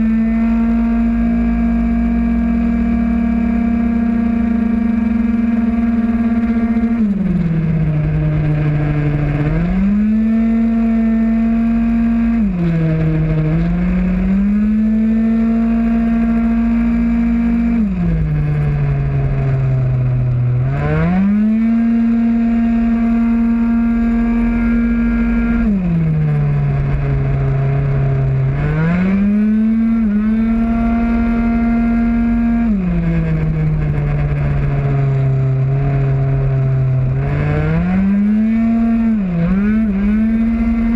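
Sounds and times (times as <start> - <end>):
scooter two-stroke engine revving: 0.0 - 40.9.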